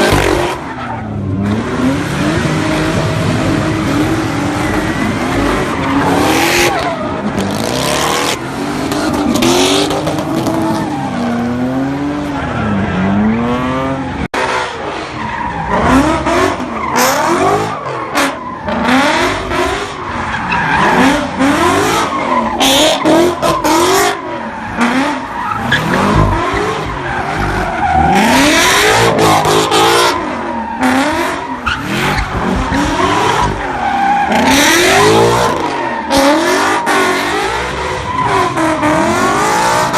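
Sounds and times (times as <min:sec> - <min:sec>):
car engines revving: 0:00.0 - 0:39.9
tires screeching and skidding: 0:00.0 - 0:39.9.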